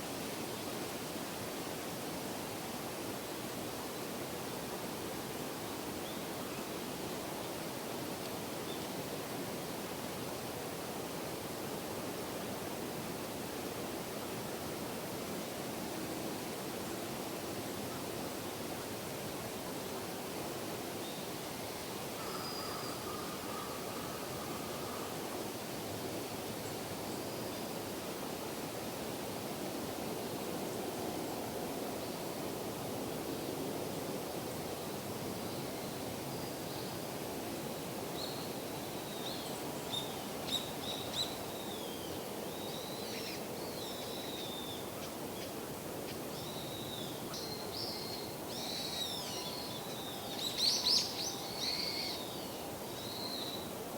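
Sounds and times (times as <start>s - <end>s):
outdoor ambience hiss: 0.0s - 53.9s.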